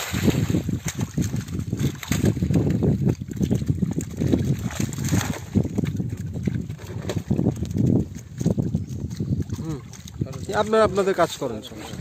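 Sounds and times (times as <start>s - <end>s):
fish thrashing and splashing: 0.0s - 12.0s.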